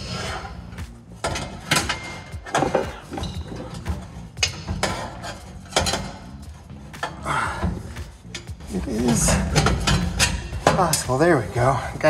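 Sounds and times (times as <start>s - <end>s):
metal pipe clanking and knocking: 0.5s - 12.0s.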